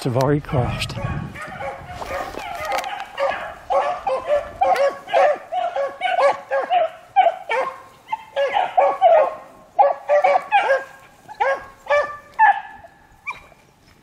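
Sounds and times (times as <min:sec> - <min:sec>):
hounds baying: 0:00.6 - 0:13.6.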